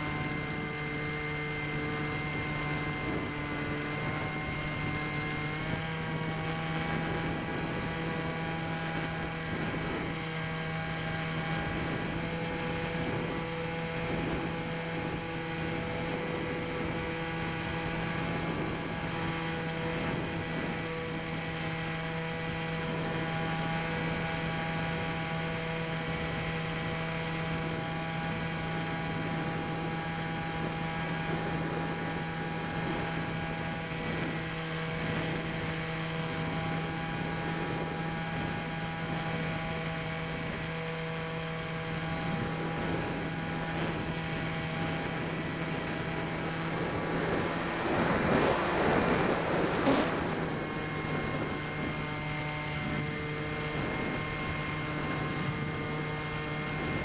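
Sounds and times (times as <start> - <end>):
electric motor and propeller whining: 0.0 - 57.0
wind rushing on microphone: 0.0 - 57.0.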